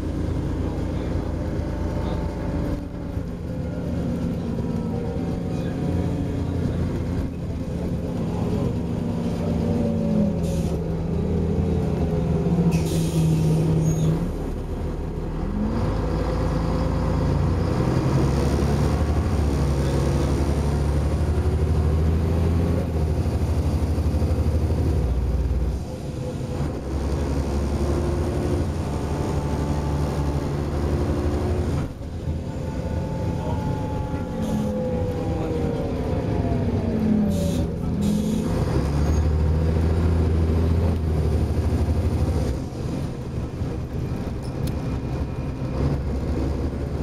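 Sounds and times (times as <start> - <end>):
bus diesel engine: 0.0 - 47.0.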